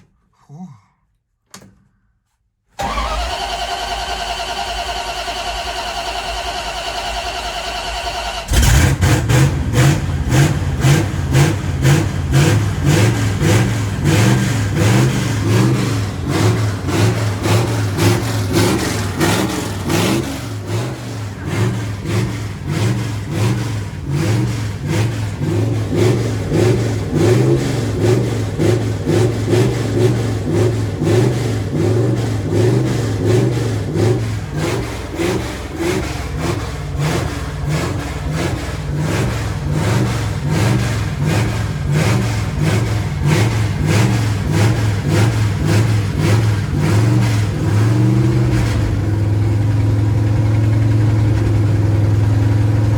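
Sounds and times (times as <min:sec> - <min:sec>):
pickup truck engine starting and running: 0:02.8 - 0:52.9.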